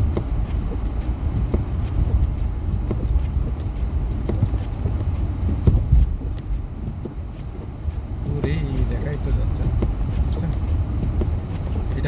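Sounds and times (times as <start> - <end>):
truck rumble from inside cab: 0.0 - 12.0
wind noise on microphone: 0.0 - 12.0.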